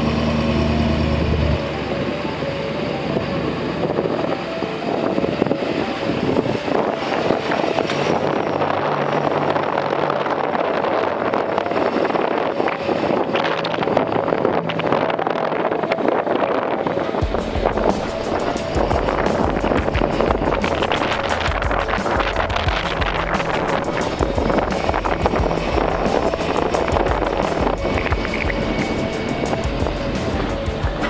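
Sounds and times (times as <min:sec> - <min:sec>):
vehicle road noise: 0:00.0 - 0:31.0
wind on microphone: 0:00.0 - 0:31.0.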